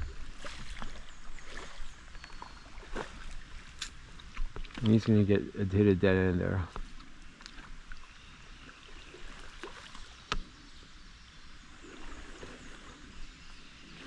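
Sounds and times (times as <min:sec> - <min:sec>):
water trickling and lapping: 0:00.0 - 0:14.0.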